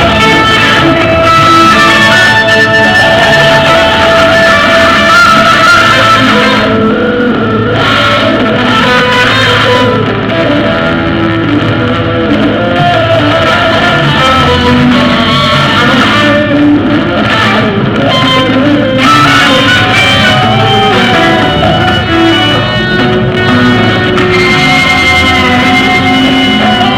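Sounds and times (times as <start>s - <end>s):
guitar music with bass: 0.0s - 26.9s.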